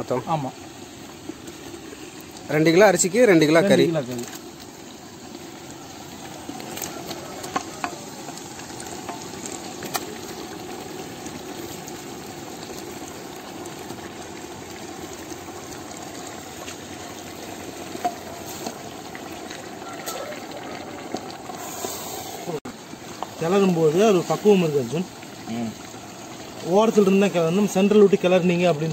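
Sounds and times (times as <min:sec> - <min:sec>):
wet hiss: 0:00.0 - 0:28.9.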